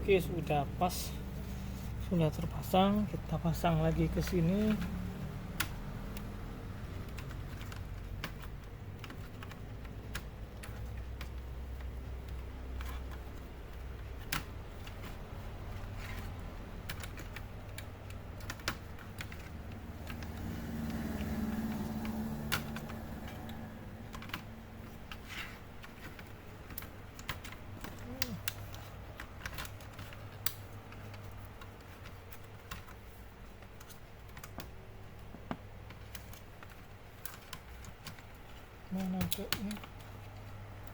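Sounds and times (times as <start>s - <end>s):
laptop parts clicking: 0.3s - 40.9s.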